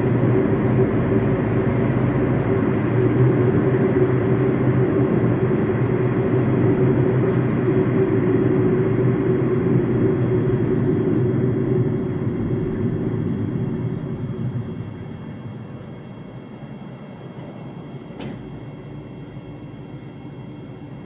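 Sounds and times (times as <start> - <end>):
car engine hum: 0.0 - 21.0
road and tyre rumble: 0.0 - 21.0.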